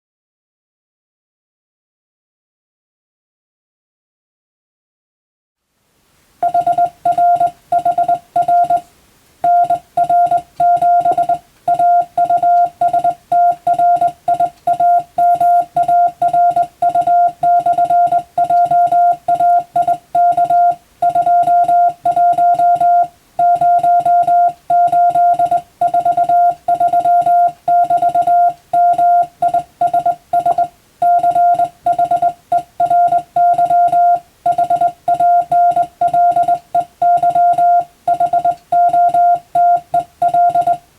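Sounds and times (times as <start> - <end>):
morse code beeps: 6.4 - 40.9.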